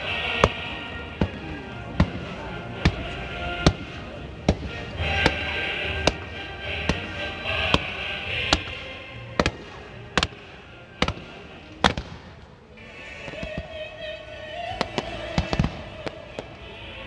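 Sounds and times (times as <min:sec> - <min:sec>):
music playing: 0:00.0 - 0:12.1, 0:12.7 - 0:17.0
fireworks bangs: 0:00.0 - 0:12.4, 0:14.7 - 0:16.6.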